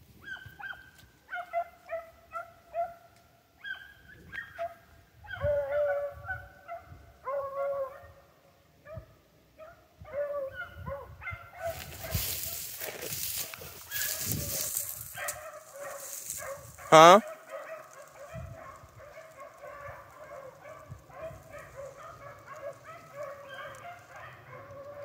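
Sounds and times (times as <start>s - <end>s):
dogs baying and yelping: 0.2s - 3.0s, 3.6s - 8.2s, 10.1s - 25.0s.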